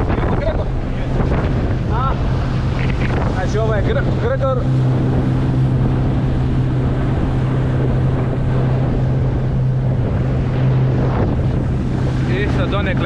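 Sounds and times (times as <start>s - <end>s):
boat motor humming: 0.0s - 13.0s
water rushing past hull: 0.0s - 13.0s
wind buffeting microphone: 0.0s - 13.0s.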